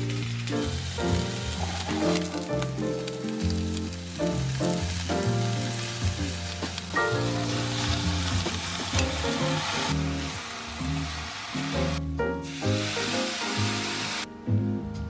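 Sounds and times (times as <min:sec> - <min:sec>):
vegetables sizzling in a pan: 0:00.0 - 0:14.3
water boiling in a pot: 0:00.0 - 0:14.3
light background music: 0:00.0 - 0:15.0.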